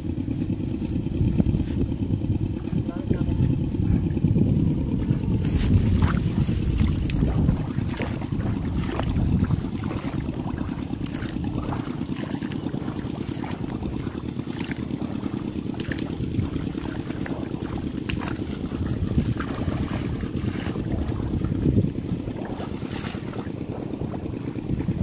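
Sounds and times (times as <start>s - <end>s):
wind rumbling on microphone: 0.0s - 25.0s
feet wading through water: 0.1s - 25.0s.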